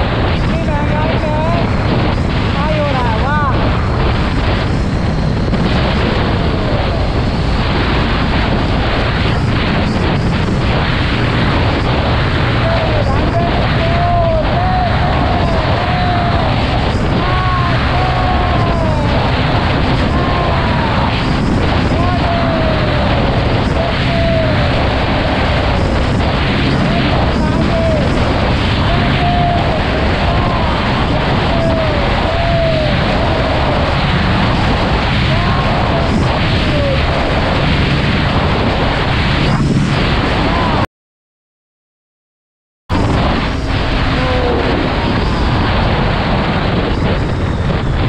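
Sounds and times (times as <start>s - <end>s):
wind rush on microphone: 0.0s - 40.9s, 42.9s - 48.0s.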